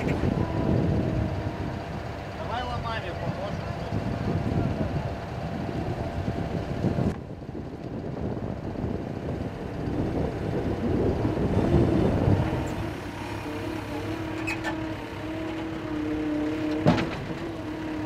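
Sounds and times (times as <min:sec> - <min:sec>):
loader engine running: 0:00.0 - 0:18.0.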